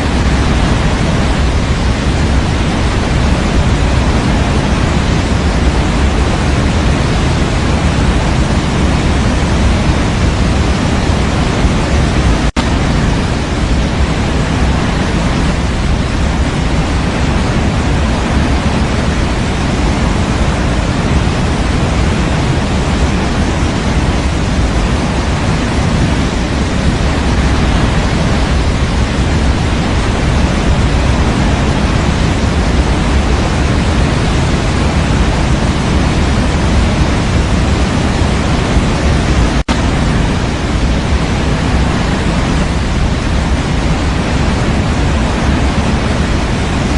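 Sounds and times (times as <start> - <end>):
steady white noise hiss: 0.0 - 46.9.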